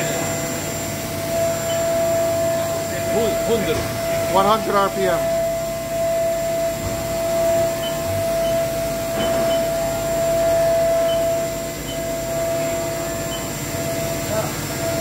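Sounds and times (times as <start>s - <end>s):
low machine hum: 0.0s - 15.0s
spindle whine: 0.0s - 15.0s.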